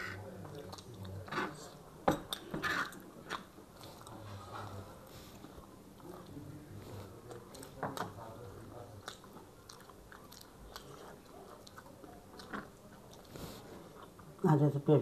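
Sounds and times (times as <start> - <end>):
close-miked chewing: 0.1 - 14.5.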